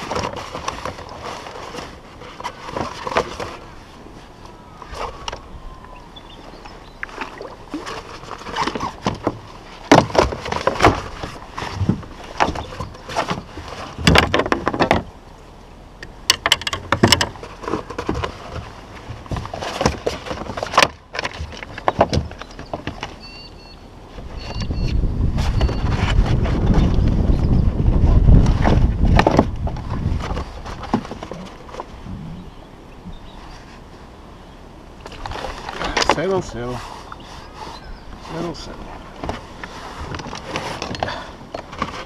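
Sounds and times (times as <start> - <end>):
knocks and clatter on plastic kayak: 0.0 - 5.5, 6.6 - 15.2, 16.0 - 23.5, 24.1 - 32.3, 35.0 - 36.6, 38.2 - 42.0.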